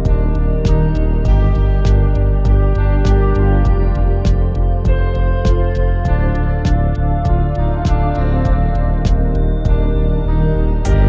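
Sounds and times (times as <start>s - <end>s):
deep bass: 0.0s - 11.0s
synth or guitar chords: 0.0s - 11.0s.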